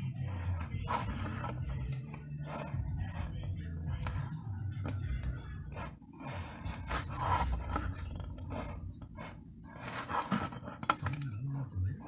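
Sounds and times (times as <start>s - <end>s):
scraping and rubbing: 0.0s - 12.0s.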